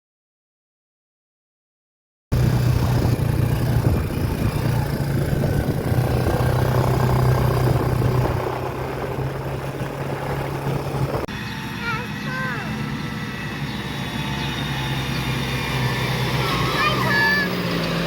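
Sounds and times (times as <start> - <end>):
large diesel engine running: 2.3 - 18.0.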